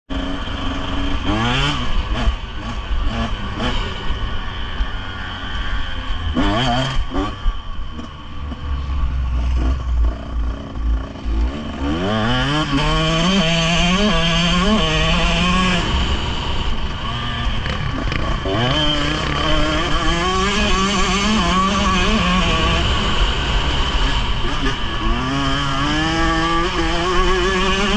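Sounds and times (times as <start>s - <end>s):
dirt bike engine revving: 0.1s - 27.9s.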